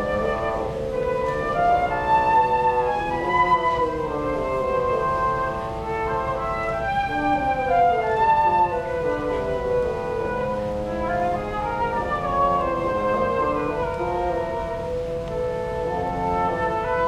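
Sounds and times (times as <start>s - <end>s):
bassoon: 0.0s - 17.0s
high wind instrument: 0.0s - 17.0s.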